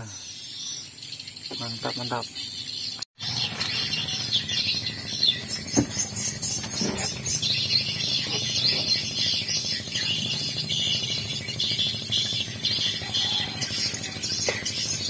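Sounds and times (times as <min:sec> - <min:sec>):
faint insects or birds: 0:00.0 - 0:15.0.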